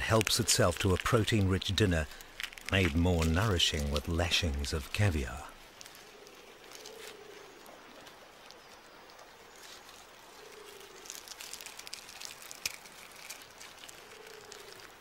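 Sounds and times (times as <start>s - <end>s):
crab shell clicks and crackles: 0.0s - 15.0s.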